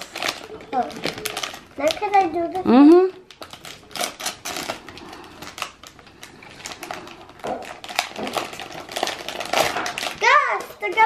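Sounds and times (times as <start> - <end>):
foil packet crinkling and tearing: 0.0 - 11.0.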